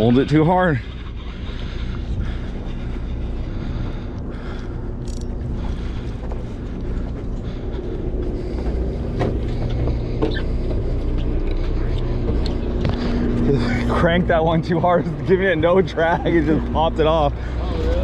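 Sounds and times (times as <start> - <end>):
boat machinery humming: 0.0 - 18.0
wind: 0.0 - 18.0.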